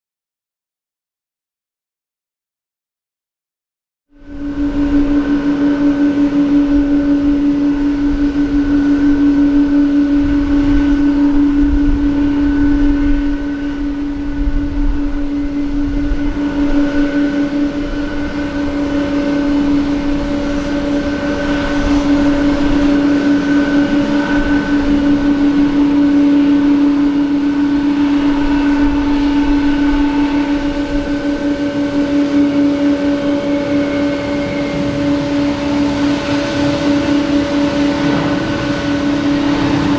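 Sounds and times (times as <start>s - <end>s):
faint rising whine: 4.1s - 39.9s
jet engine droning hum: 4.1s - 39.9s
low rumble: 4.1s - 39.9s.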